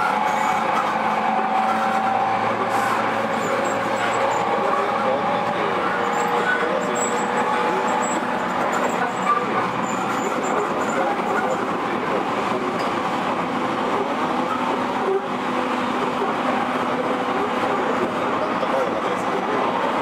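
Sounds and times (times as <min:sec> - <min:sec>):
faint train whine: 0:00.0 - 0:20.0
train running rumble: 0:00.0 - 0:20.0.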